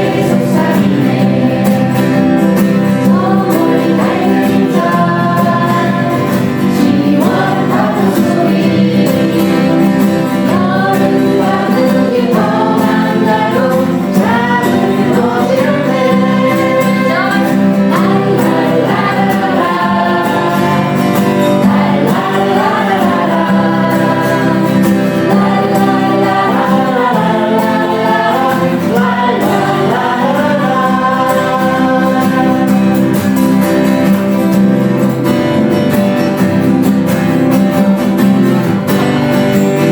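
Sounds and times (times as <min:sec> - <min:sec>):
people singing a melody: 0:00.0 - 0:34.6
instrumental accompaniment: 0:00.0 - 0:39.9.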